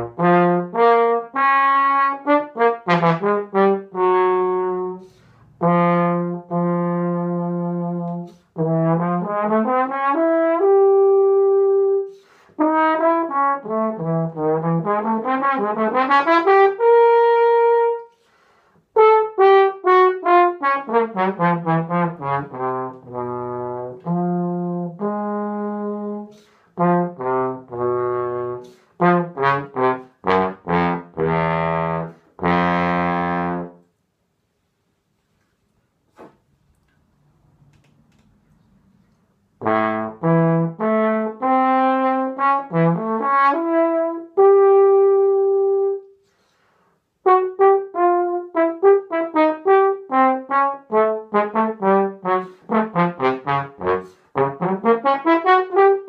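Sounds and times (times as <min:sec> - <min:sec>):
solo trombone playing: 0:00.0 - 0:18.2, 0:18.9 - 0:33.9, 0:39.6 - 0:46.2, 0:47.2 - 0:56.0.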